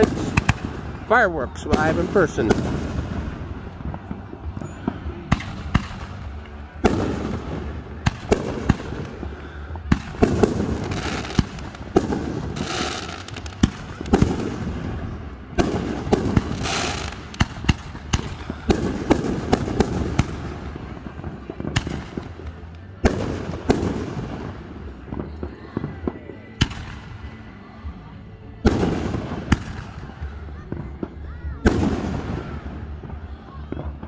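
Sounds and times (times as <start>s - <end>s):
fireworks booming: 0.0s - 27.3s, 28.6s - 34.0s
fireworks crackling and sizzling: 0.0s - 34.0s.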